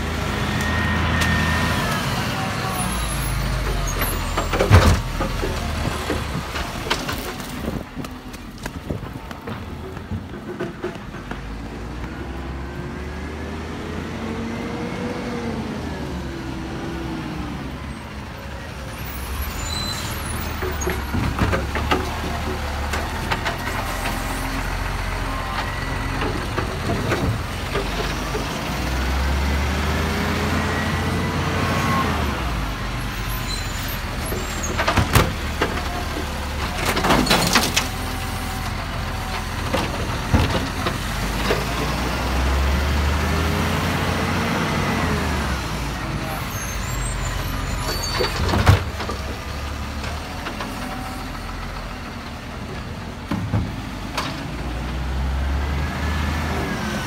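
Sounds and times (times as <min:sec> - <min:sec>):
diesel engine revving: 0:00.0 - 0:08.0, 0:11.1 - 0:57.0.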